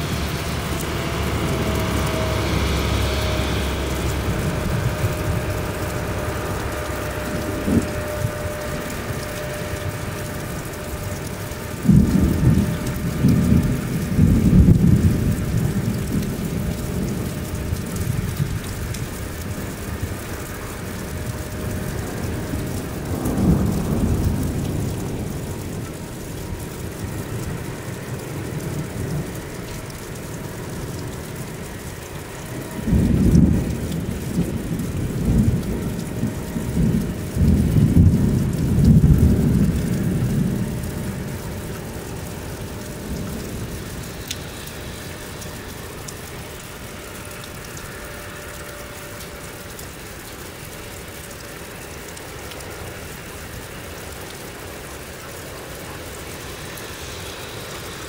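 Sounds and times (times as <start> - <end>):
thunder rumbling: 0.0 - 49.2
heavy rain: 0.0 - 58.0.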